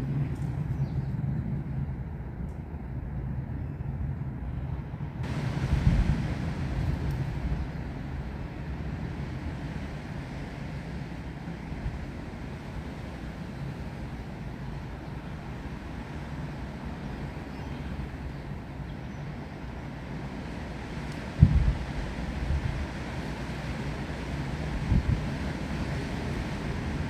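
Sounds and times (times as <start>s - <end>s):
wind on microphone: 0.0s - 17.3s, 20.9s - 23.3s, 24.3s - 27.0s
rain: 5.2s - 27.0s.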